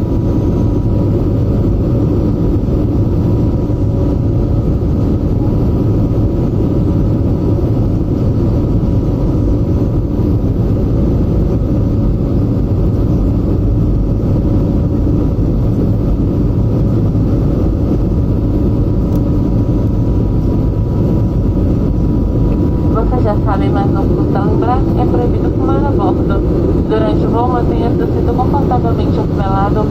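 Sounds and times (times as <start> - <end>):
constant whining tones: 0.0 - 29.9
jet engine roar in cabin: 0.0 - 29.9.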